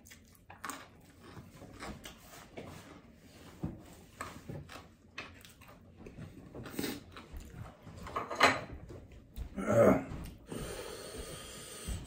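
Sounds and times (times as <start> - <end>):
man chewing food: 0.0 - 12.0.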